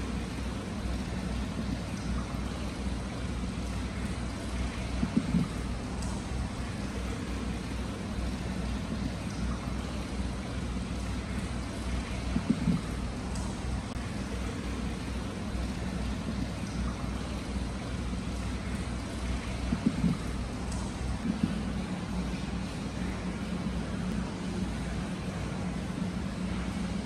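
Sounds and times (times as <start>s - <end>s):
water spilling into a bath: 0.0s - 27.0s.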